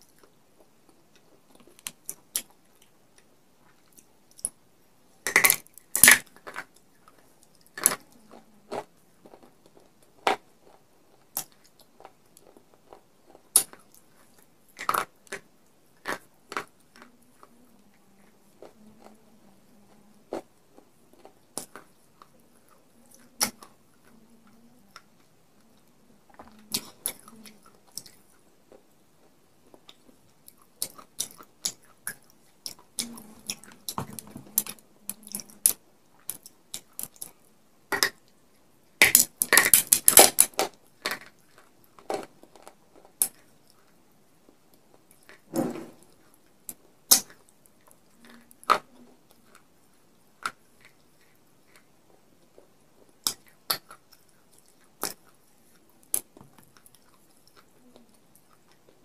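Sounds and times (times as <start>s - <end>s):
crackling snaps: 5.2s - 49.7s, 50.3s - 59.0s
clay pieces crunched and chewed: 5.2s - 59.0s.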